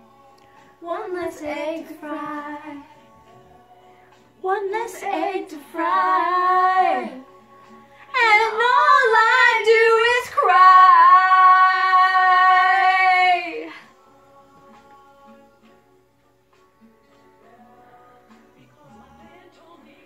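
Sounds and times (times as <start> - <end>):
woman and girl singing duet: 0.0 - 15.5, 17.5 - 20.0
karaoke backing track: 0.0 - 20.0.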